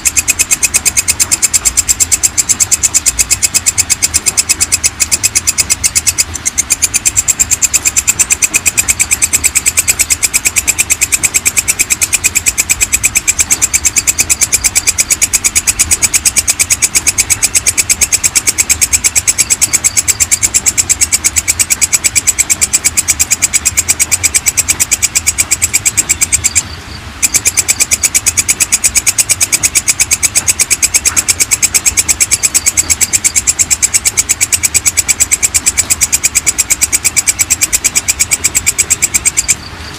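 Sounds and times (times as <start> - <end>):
katydid chirping: 0.0 - 39.9.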